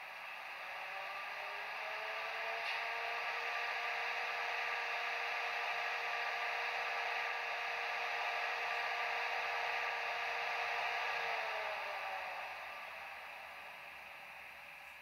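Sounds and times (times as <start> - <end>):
steady humming tones: 0.0 - 15.0
whirring fan hiss: 0.0 - 15.0.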